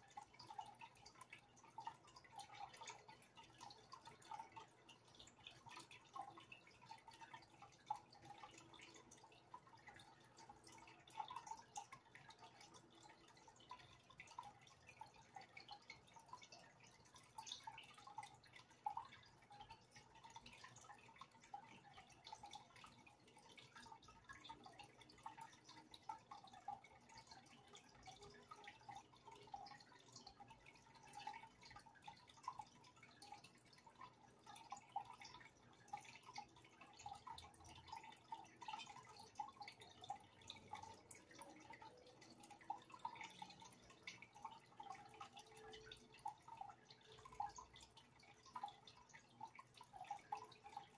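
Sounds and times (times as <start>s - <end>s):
aquarium water bubbling and dripping: 0.0s - 50.9s.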